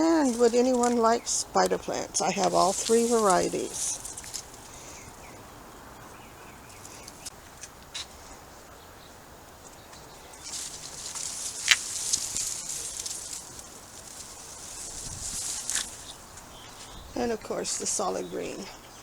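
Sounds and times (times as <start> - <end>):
rustling noise: 0.0 - 6.1, 9.6 - 18.7.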